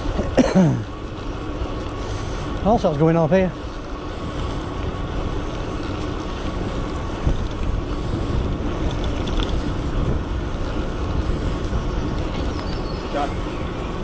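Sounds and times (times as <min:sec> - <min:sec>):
bike road noise: 0:00.0 - 0:14.0
wind rushing over microphone: 0:01.0 - 0:14.0.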